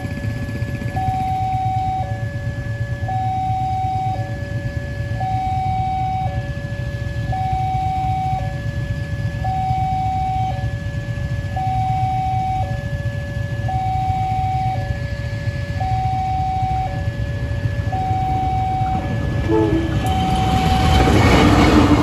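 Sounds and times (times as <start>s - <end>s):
level crossing two-tone alarm: 0.0s - 22.0s
low steady rumble: 0.0s - 22.0s.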